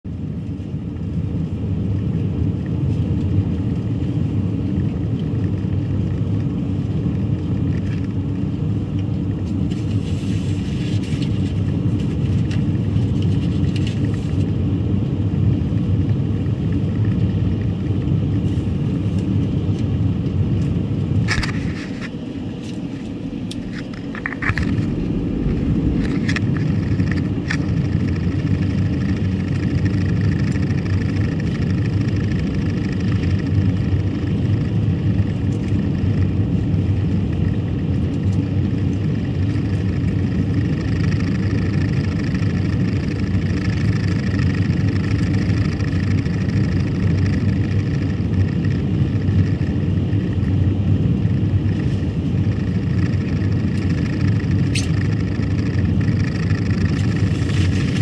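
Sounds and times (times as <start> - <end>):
car road and engine rumble: 0.1 - 58.0.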